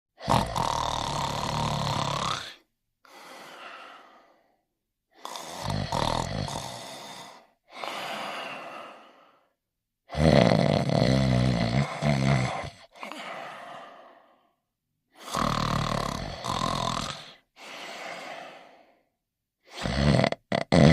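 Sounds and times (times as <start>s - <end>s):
person snoring: 0.2s - 9.5s, 10.1s - 20.9s.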